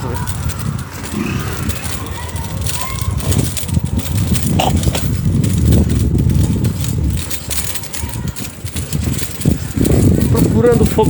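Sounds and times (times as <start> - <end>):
wind and road noise rumble: 0.0 - 11.0.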